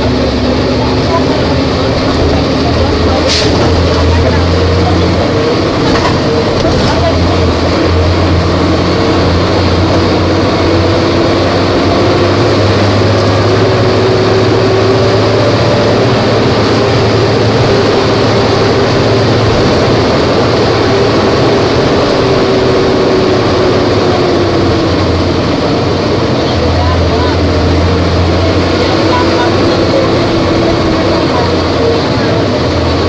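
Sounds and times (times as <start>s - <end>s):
bus engine drone: 0.0s - 33.0s.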